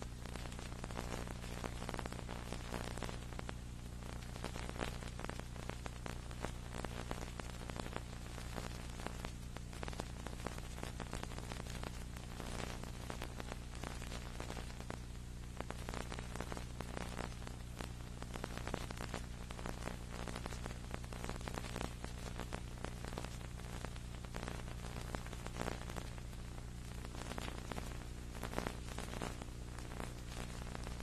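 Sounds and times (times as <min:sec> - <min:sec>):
crackling static: 0:00.0 - 0:31.0
electrical hum: 0:00.0 - 0:31.0.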